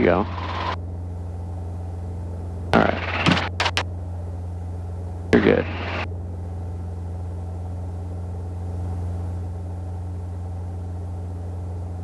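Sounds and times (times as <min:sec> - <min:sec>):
helicopter engine and rotors drone: 0:00.0 - 0:12.0.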